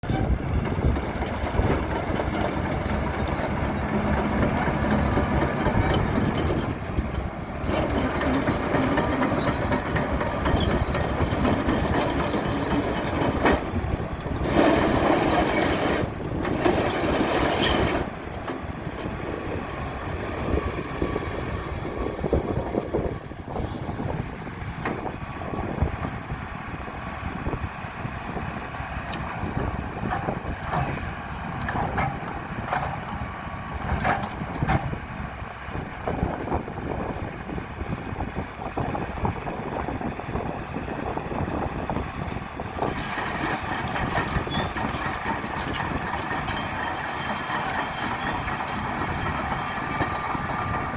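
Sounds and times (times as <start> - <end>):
steel tracks clanking and squealing: 0.0 - 26.5, 28.2 - 37.4, 38.7 - 50.9
diesel engine and hydraulics: 0.0 - 50.9.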